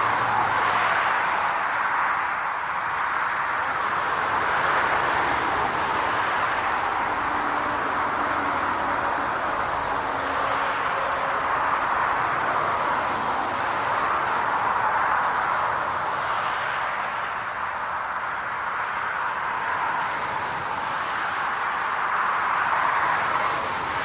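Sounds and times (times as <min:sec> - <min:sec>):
jet airliner engines running: 0:00.0 - 0:24.0.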